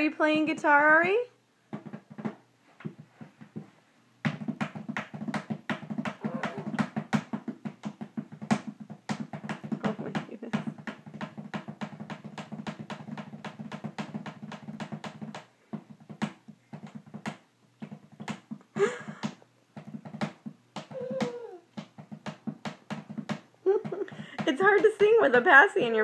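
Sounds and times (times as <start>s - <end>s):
fast drum taps: 1.7s - 26.0s.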